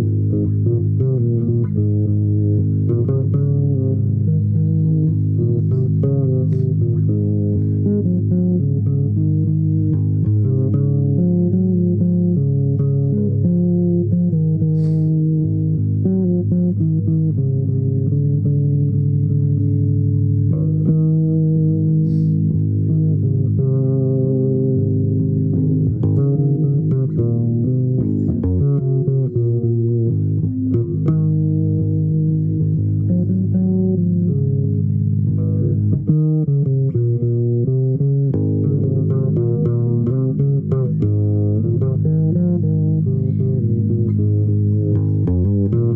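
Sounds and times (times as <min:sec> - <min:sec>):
bass guitar plucked notes: 0:00.0 - 0:45.9.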